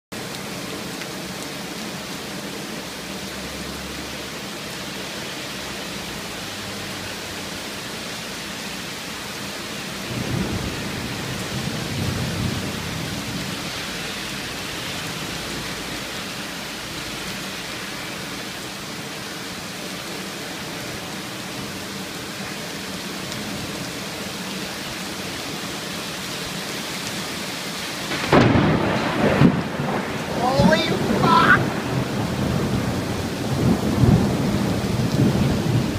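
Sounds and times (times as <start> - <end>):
heavy rain pouring: 0.1 - 35.9.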